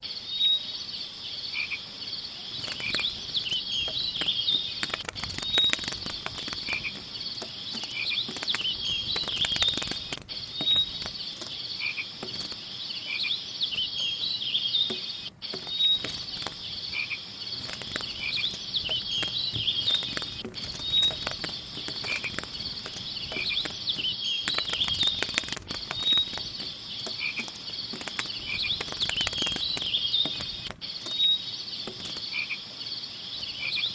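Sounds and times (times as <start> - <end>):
insect trilling: 0.0 - 32.6
frogs croaking: 0.0 - 33.9
crackly clicks: 2.4 - 12.6, 13.7 - 32.6.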